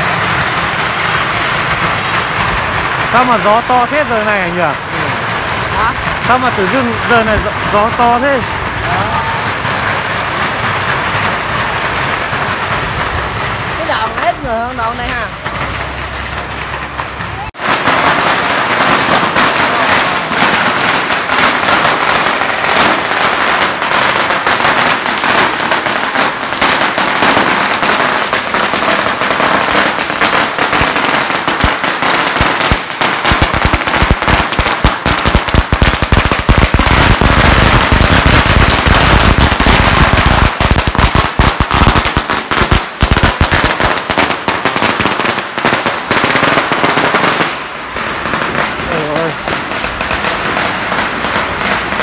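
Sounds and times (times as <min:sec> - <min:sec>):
firecrackers crackling: 0:00.0 - 0:52.0
heavy bangs: 0:00.0 - 0:52.0.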